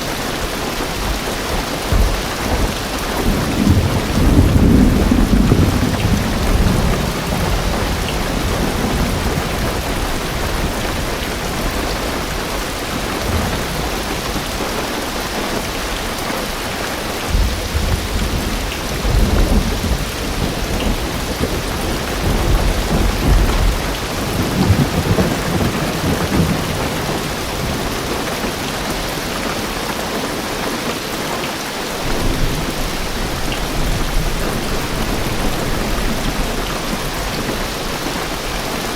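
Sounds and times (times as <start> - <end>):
heavy rain on car roof: 0.0 - 38.9
rumbles of thunder: 0.9 - 16.0, 17.2 - 29.3, 32.0 - 38.9.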